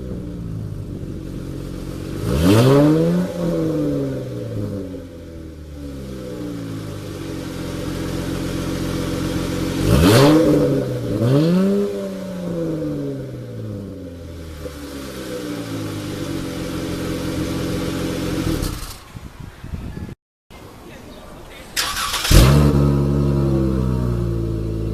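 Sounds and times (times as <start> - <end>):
car engine idling and revving: 0.0 - 19.1, 21.9 - 24.9.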